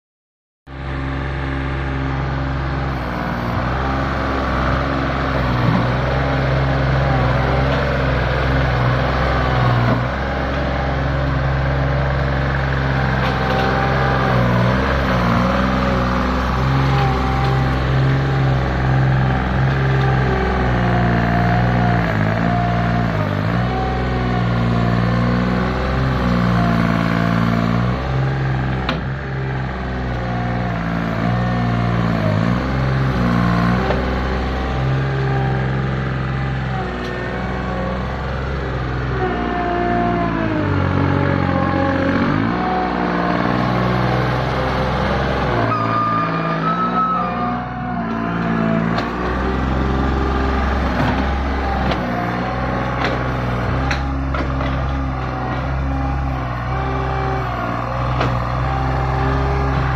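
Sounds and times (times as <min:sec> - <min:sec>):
skid steer loader engine: 0:00.7 - 0:59.9.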